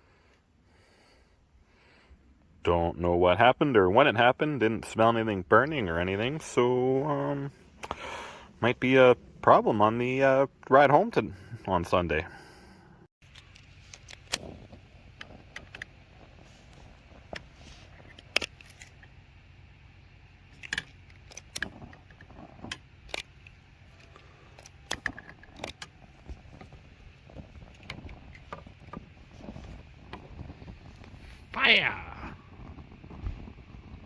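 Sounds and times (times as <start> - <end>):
low steady rumble: 0.0 - 34.0.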